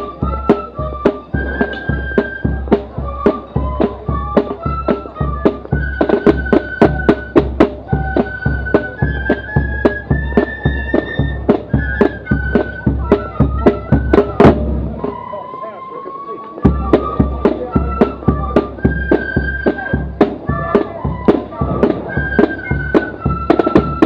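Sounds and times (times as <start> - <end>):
drums beating a march rhythm: 0.0 - 24.0
flute melody: 0.0 - 24.0
bass drum thuds: 0.1 - 15.2, 16.7 - 24.0.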